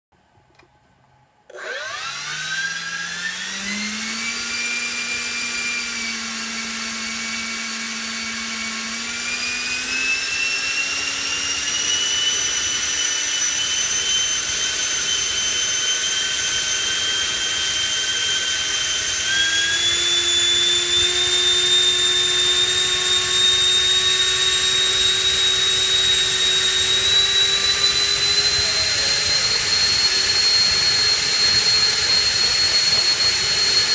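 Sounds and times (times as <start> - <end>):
electric ducted fan whine: 0.2 - 33.9.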